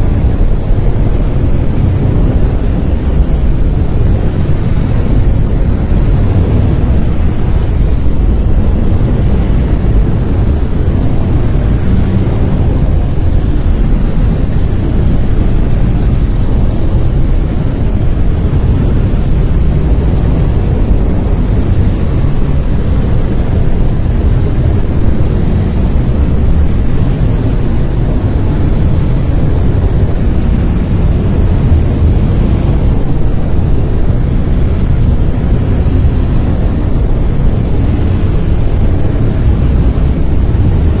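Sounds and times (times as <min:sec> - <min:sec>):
brown noise rumbling hiss: 0:00.0 - 0:41.0.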